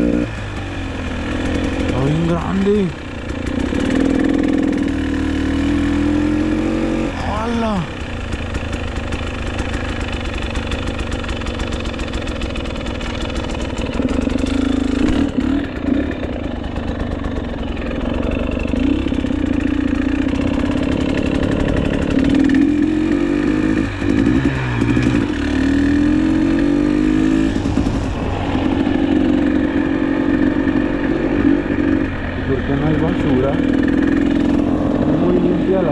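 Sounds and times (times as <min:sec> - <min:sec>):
two-stroke motorcycle engine revving: 0:00.0 - 0:35.9.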